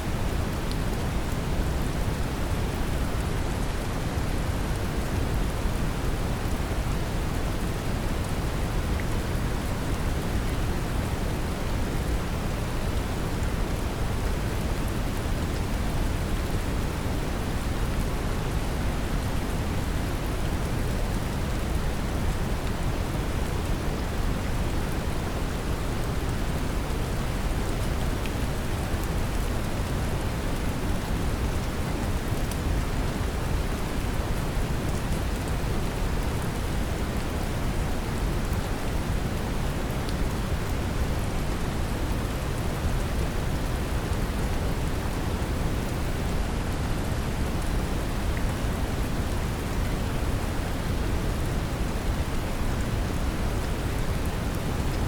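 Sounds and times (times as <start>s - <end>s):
brown noise hiss: 0.0s - 55.0s
gentle rain patter: 0.0s - 55.0s.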